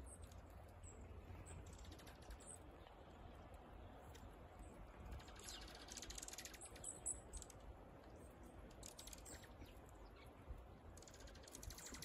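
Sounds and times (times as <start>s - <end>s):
small birds chipping and twittering: 0.0s - 12.0s.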